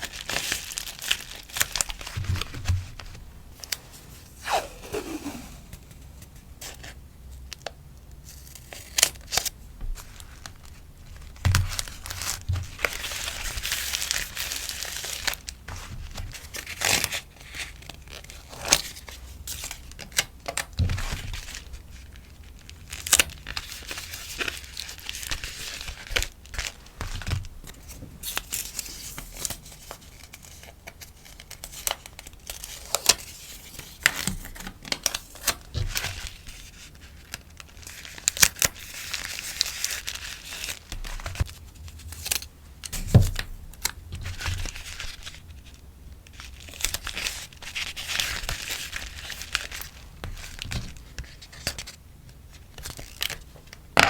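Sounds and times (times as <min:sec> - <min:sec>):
plastic and paper crinkling: 0:00.0 - 0:54.0.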